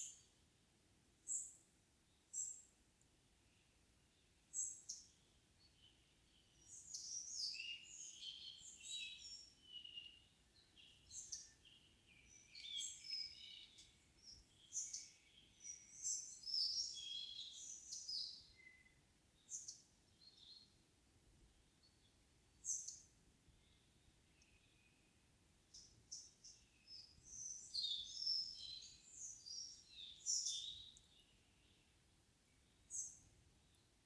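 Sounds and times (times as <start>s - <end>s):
songbirds chirping and twittering: 0.0s - 34.0s.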